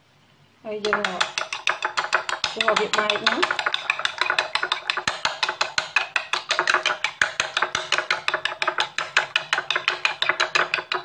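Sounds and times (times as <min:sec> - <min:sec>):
spoon beating eggs in bowl: 0:00.8 - 0:11.0.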